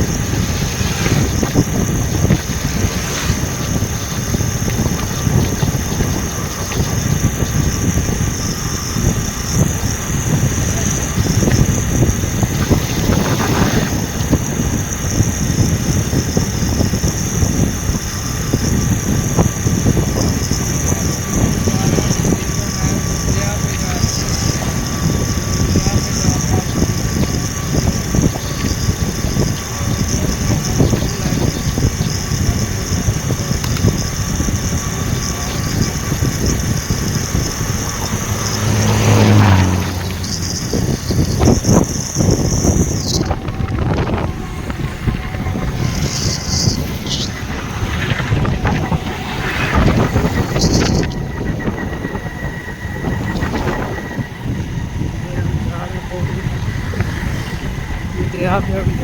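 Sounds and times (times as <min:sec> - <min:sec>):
low steady drone: 0:00.0 - 0:59.0
vehicle engine low rumble: 0:00.0 - 0:59.0.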